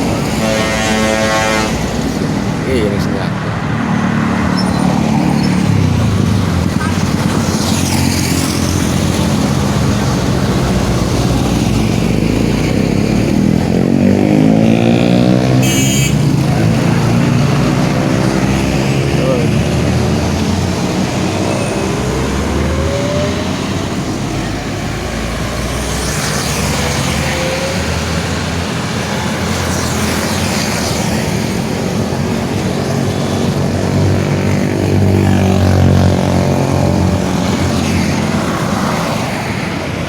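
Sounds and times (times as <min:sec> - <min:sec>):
diesel engines running: 0:00.0 - 0:40.0
heavy road traffic passing: 0:00.0 - 0:40.0
tyre and road noise: 0:00.0 - 0:40.0.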